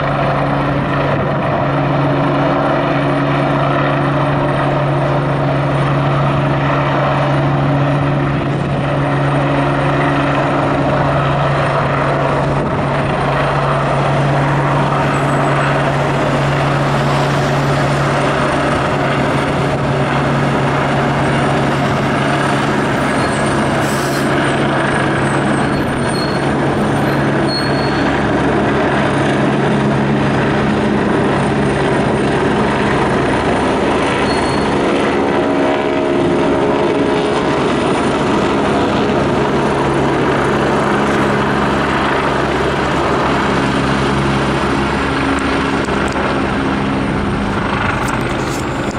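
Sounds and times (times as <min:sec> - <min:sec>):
helicopter hovering overhead: 0:00.0 - 0:48.9.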